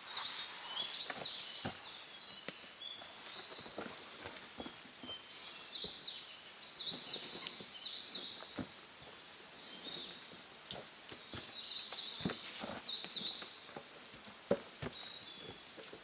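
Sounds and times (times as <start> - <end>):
songbird singing: 0.0 - 15.9.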